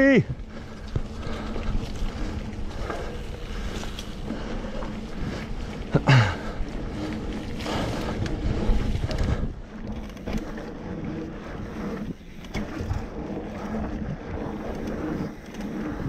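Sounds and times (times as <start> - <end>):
bike tyre noise: 0.0 - 16.0
wind rushing over microphone: 0.0 - 16.0.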